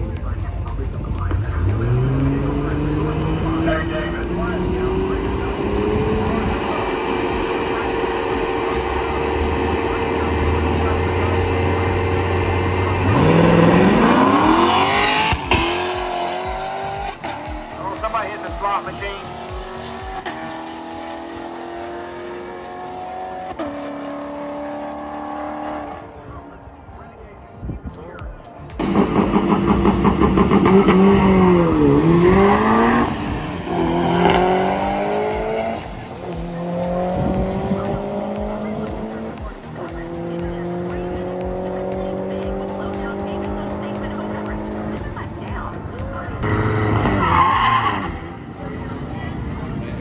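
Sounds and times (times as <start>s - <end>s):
drag racing car accelerating: 0.0s - 26.2s, 28.8s - 50.0s.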